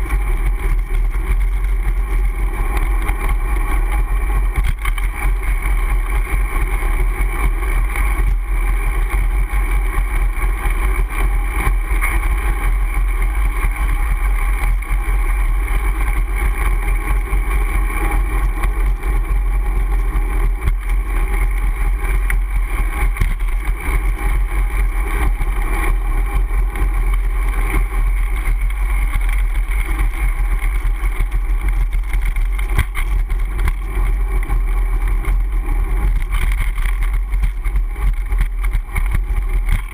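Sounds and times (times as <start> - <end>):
bicycle road noise: 0.0 - 39.9
wind rumble on microphone: 0.0 - 39.9.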